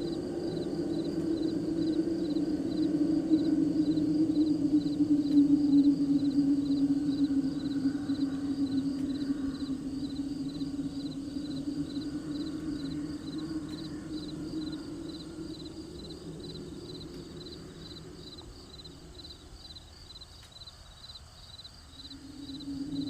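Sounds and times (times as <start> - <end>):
low steady hum: 0.0 - 21.0
crickets chirping: 0.0 - 23.0.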